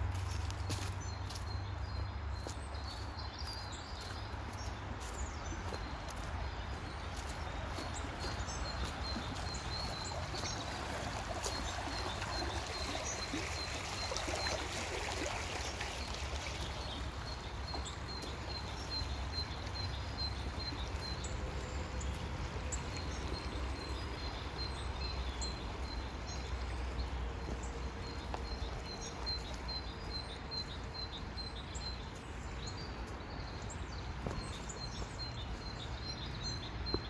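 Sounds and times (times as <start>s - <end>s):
brook water trickling: 0.0s - 37.0s.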